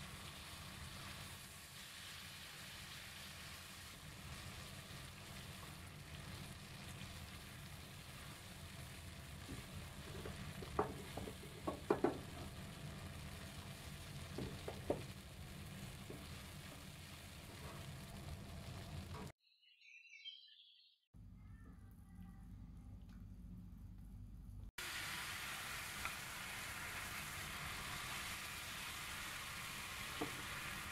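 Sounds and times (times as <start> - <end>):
food sizzling on hot plate: 0.0 - 19.3, 24.8 - 30.9.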